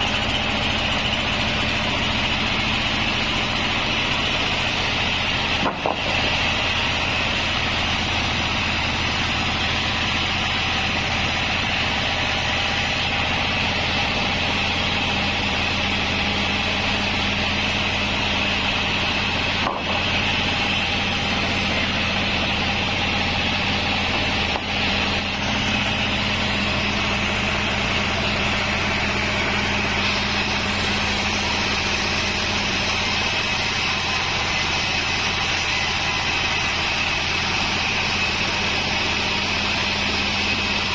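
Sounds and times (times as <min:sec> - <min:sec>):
band saw motor humming: 0:00.0 - 0:40.9.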